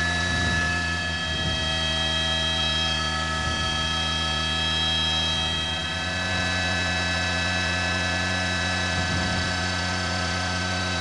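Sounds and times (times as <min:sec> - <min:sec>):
helicopter engine and rotor noise: 0:00.0 - 0:11.0
high whining tones: 0:00.0 - 0:11.0.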